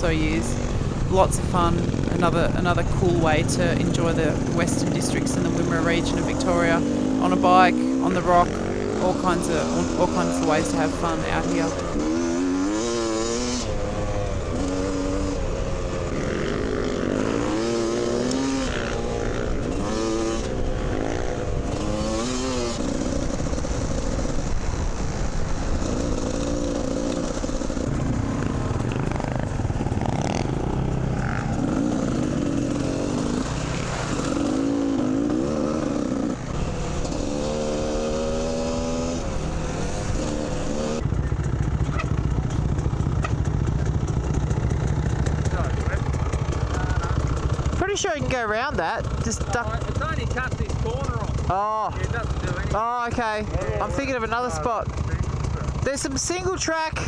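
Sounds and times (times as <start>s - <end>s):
dirt bike engine revving: 0.0s - 57.0s
low riding rumble: 0.0s - 57.0s.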